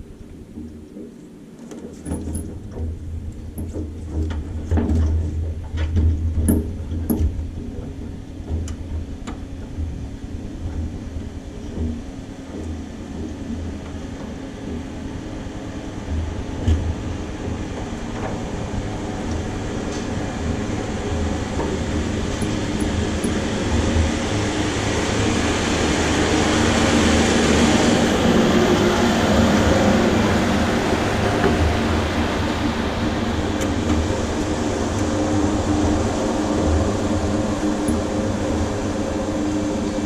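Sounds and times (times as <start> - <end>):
piston aircraft engine running: 0.0 - 40.0.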